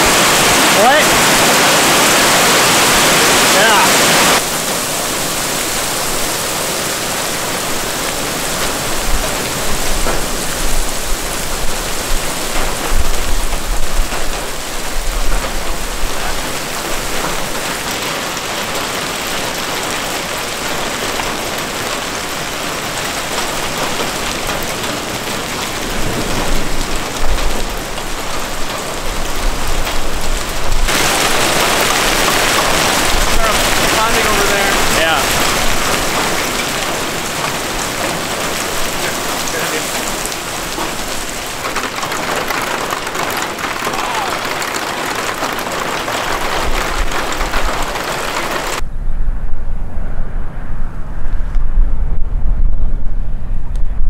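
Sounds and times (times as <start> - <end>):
clattering hail hits: 0.0 - 48.8
hail and heavy rain on pavement: 0.0 - 48.8.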